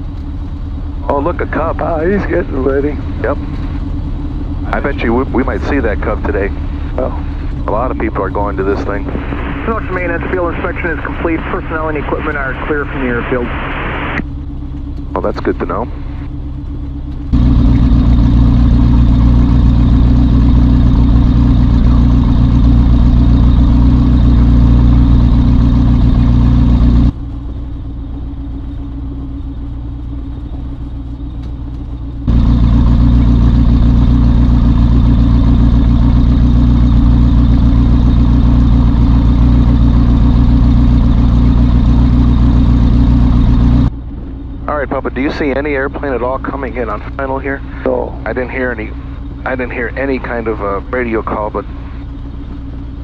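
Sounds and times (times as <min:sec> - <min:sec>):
light plane engine running: 0:00.0 - 0:53.0.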